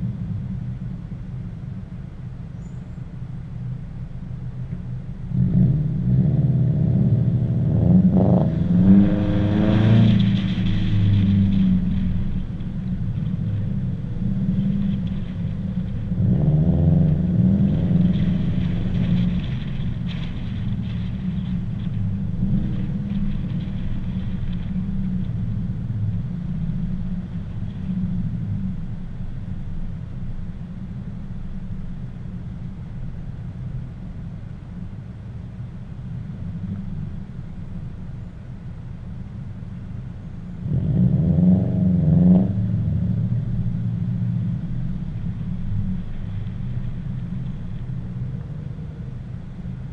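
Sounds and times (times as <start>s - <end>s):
car engines on the road: 0.0s - 49.9s.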